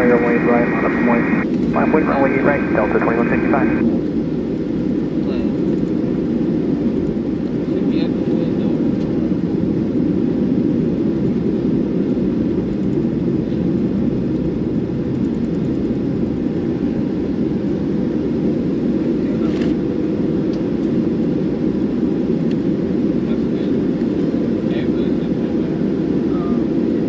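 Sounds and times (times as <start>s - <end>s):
aircraft cabin engine rumble: 0.0s - 27.0s.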